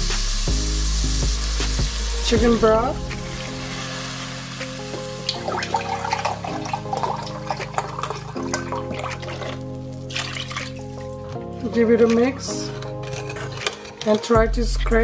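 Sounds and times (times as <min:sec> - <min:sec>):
broth pouring and splashing: 0:00.0 - 0:14.2
background music of held chords: 0:00.0 - 0:15.0.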